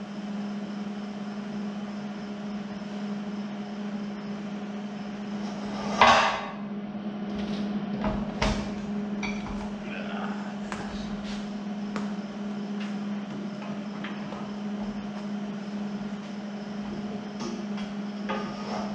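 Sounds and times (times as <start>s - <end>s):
steady hum: 0.0s - 18.9s.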